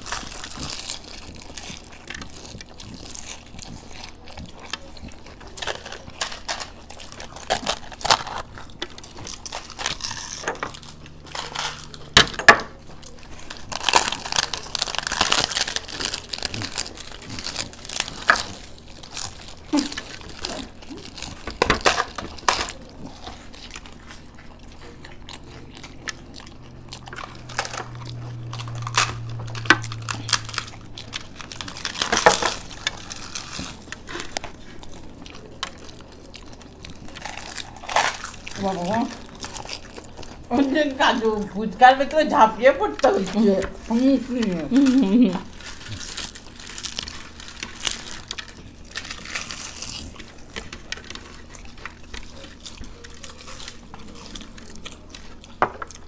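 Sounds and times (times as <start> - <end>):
people crunching crisp shells: 0.0 - 56.0.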